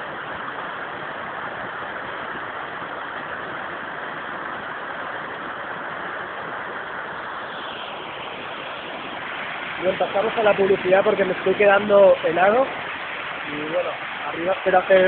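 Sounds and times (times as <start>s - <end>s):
mountain stream rushing over rocks: 0.0s - 15.0s.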